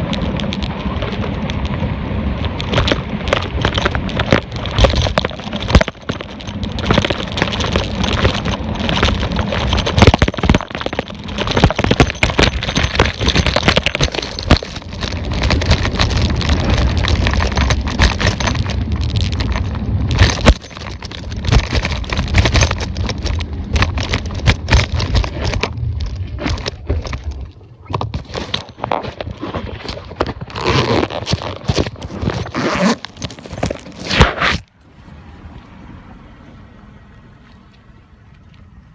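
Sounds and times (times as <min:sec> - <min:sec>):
bike rattling: 0:00.0 - 0:34.7
bike tyres crackling on rough ground: 0:00.0 - 0:34.7
wind rumble on microphone: 0:00.0 - 0:38.9.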